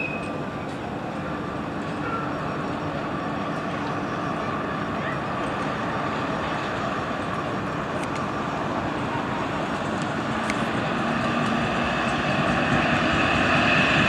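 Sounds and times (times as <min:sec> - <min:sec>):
city road traffic: 0:00.0 - 0:14.0
tram running along street: 0:00.0 - 0:14.0.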